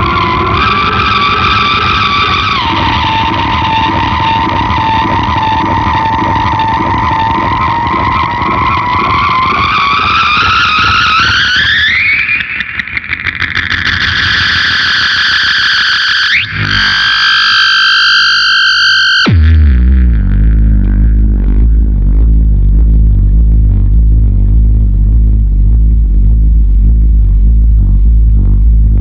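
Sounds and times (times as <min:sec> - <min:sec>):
distorted electric guitar drone: 0:00.0 - 0:29.0.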